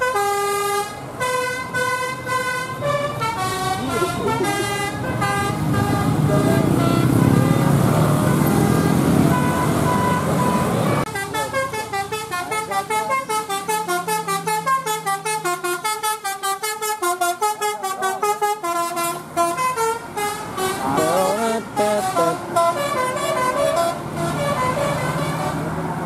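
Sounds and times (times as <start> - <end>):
musical bus horn tune: 0.0 - 25.7
bus engine: 0.0 - 26.0
traffic noise: 0.0 - 26.0.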